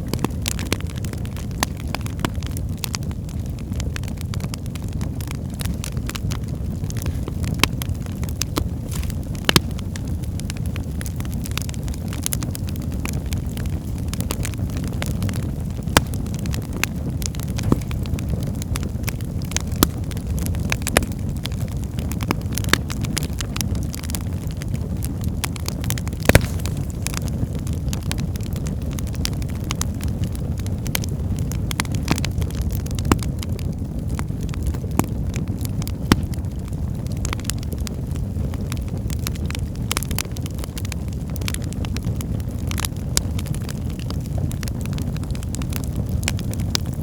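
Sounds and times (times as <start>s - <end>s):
fire crackling and popping: 0.0s - 47.0s
wood fire rumbling: 0.0s - 47.0s.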